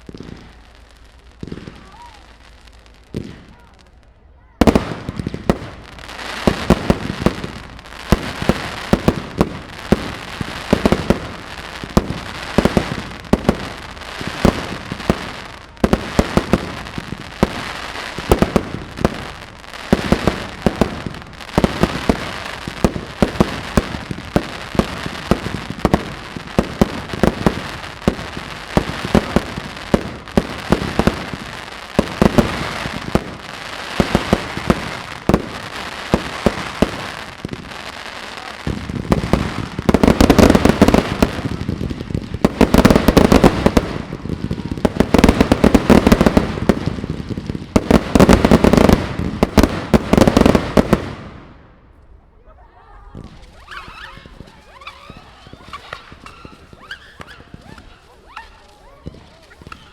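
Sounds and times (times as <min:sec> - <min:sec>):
fireworks bangs: 0:00.0 - 0:59.9
fireworks crackle: 0:00.0 - 0:59.9.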